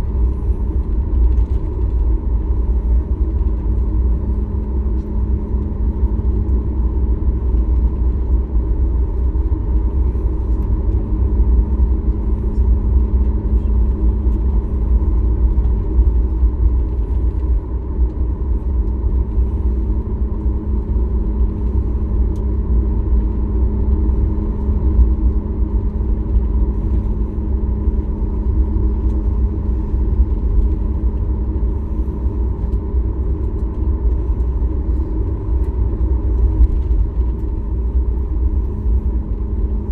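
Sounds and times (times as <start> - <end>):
airplane engine rumble: 0.0 - 39.9
cabin airflow: 0.0 - 39.9
steady engine tones: 0.0 - 39.9.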